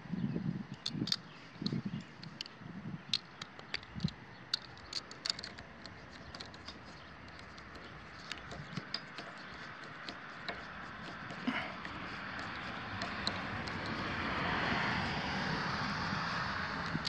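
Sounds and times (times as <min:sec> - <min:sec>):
nut driver clicking: 0:00.8 - 0:02.5, 0:03.1 - 0:17.0.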